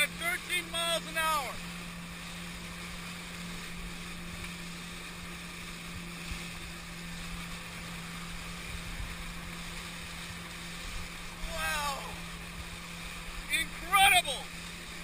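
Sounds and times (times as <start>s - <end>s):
jet ski engine droning: 0.0s - 15.0s
water rushing past hull: 0.0s - 15.0s.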